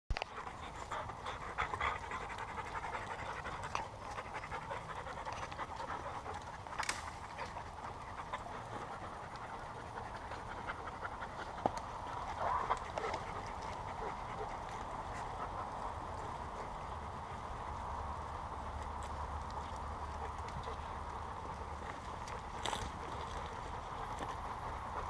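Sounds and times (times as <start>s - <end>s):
dogs panting: 0.2s - 25.0s.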